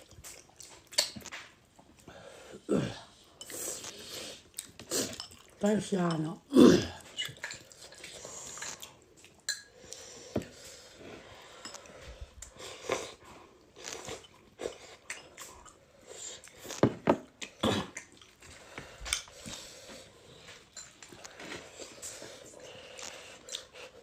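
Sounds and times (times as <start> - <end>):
person chewing food: 0.0 - 2.2, 2.9 - 5.6, 6.8 - 24.0.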